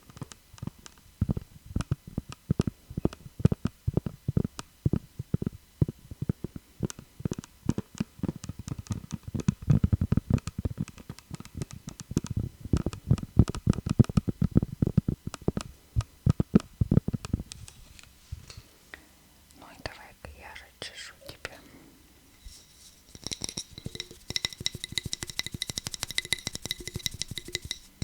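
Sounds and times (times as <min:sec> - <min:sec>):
fingers tapping on hard object: 0:00.0 - 0:17.6, 0:23.1 - 0:28.0.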